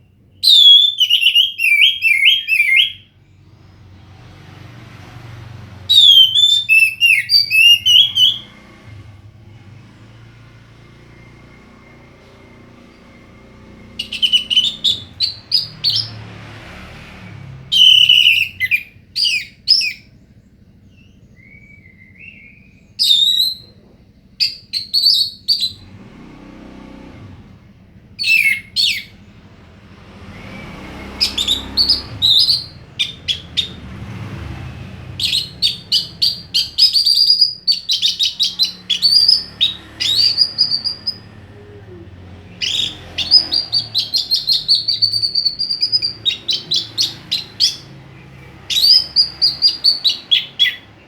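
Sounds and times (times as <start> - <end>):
thrush singing whistled notes: 0.0 - 27.1, 28.2 - 51.0.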